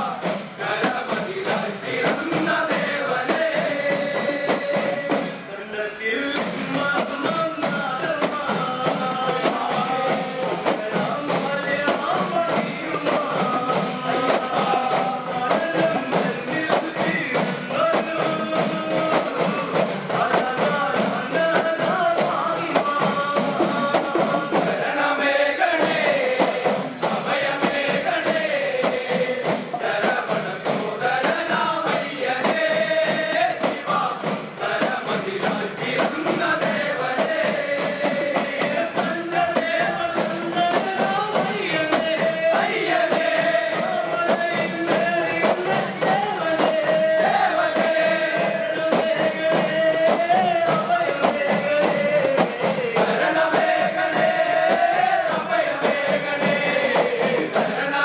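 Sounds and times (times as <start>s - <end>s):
hand drums beating: 0.0s - 5.5s, 6.3s - 58.0s
men singing in chorus: 0.0s - 58.0s.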